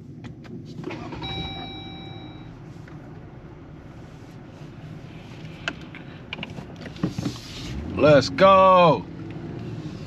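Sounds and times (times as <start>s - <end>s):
car engine rumble inside cabin: 0.0s - 10.0s.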